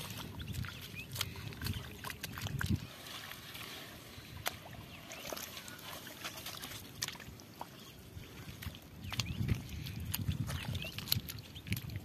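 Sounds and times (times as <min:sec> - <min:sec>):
shallow water sloshing: 0:00.0 - 0:12.0.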